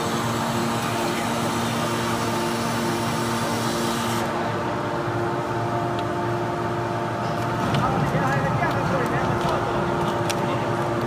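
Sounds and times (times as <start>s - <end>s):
hydraulic power unit humming: 0.0s - 11.0s
machine noise: 0.0s - 11.0s.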